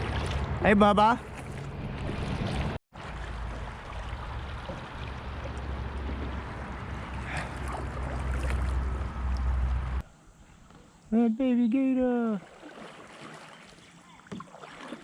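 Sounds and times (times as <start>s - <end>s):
river water washing: 0.0s - 10.0s, 12.3s - 15.0s.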